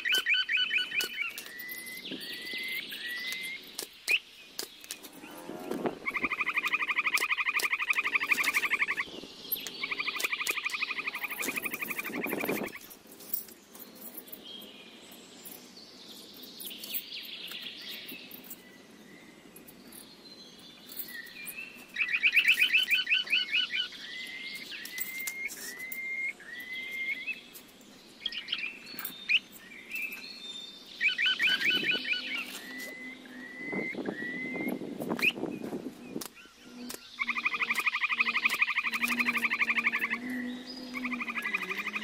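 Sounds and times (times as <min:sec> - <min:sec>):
songbird trilling and whistling: 0:00.0 - 0:05.4, 0:06.0 - 0:12.9, 0:19.9 - 0:27.5, 0:28.2 - 0:42.0.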